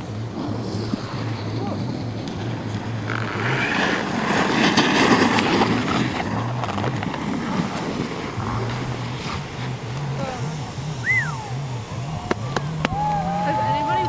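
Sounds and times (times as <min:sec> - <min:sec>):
low wavering hum: 0:00.0 - 0:14.0
snowboard edge scraping snow: 0:00.1 - 0:11.8.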